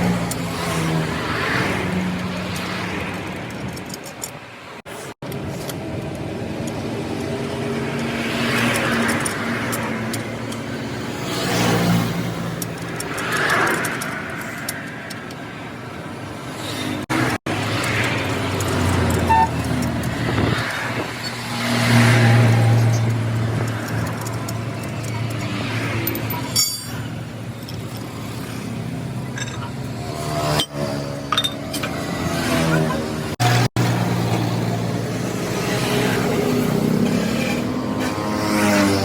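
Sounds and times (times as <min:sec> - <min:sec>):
vehicles passing: 0:00.0 - 0:39.0.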